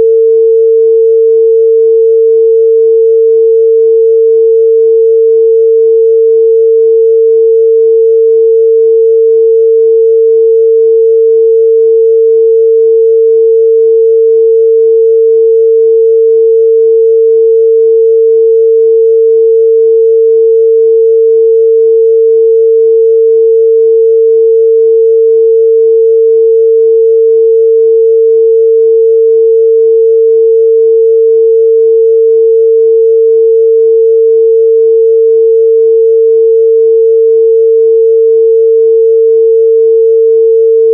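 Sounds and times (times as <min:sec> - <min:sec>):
sine-wave test tone: 0:00.0 - 0:40.9.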